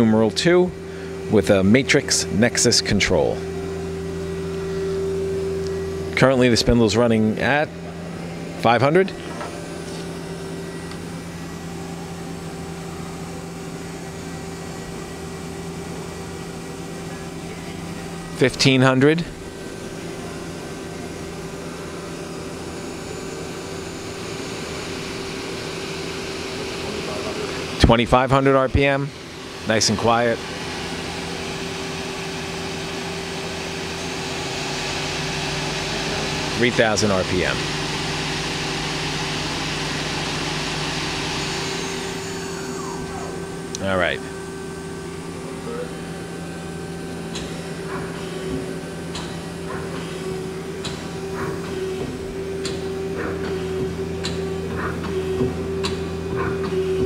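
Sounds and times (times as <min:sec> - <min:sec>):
machine spindle hum: 0:00.0 - 0:57.0.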